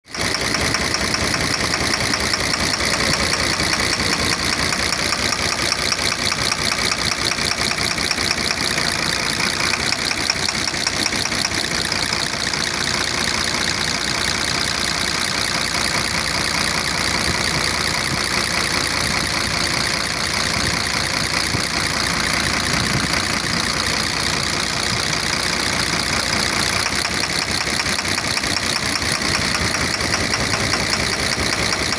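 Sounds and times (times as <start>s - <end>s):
diesel engine idling: 0.1s - 31.9s
rapid engine knock: 0.1s - 31.9s.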